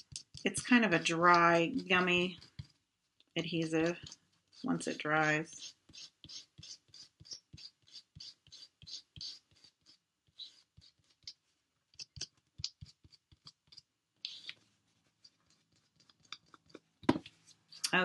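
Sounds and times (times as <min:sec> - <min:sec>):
rubber block scratching on cardstock: 0:01.0 - 0:02.8, 0:03.6 - 0:16.7.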